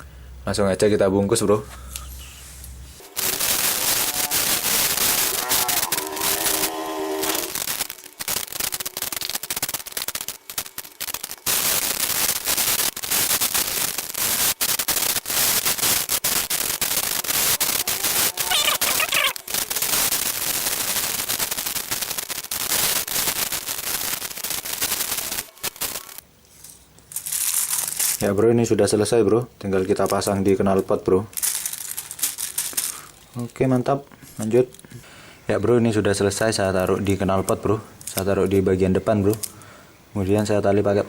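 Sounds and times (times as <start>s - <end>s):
aluminium foil crinkling: 3.0s - 28.3s, 29.7s - 34.9s, 36.8s - 38.6s, 39.2s - 39.7s.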